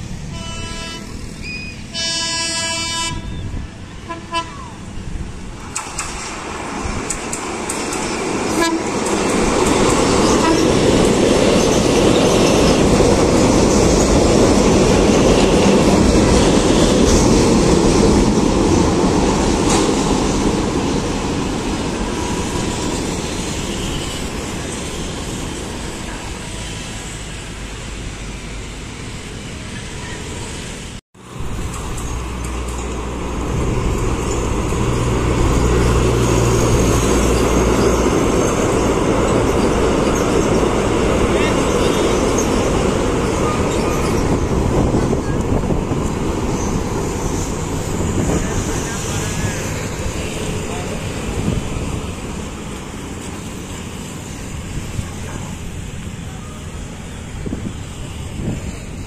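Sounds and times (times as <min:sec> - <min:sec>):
train passing with rail rumble: 0:00.0 - 0:59.0.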